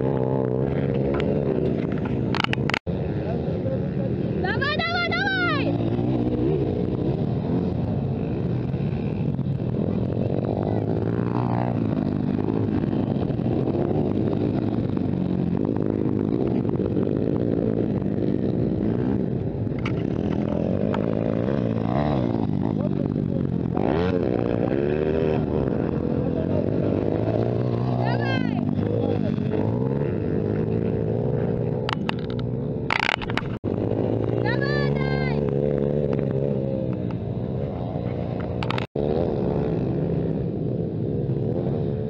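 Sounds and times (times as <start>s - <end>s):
motocross bike engines revving: 0.0s - 42.0s.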